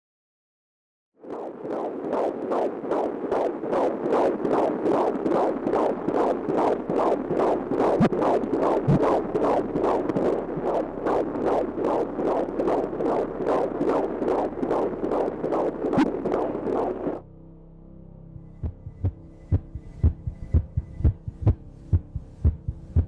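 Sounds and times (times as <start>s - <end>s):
fetal heartbeat whooshing pulses: 1.2s - 17.2s, 18.6s - 23.0s.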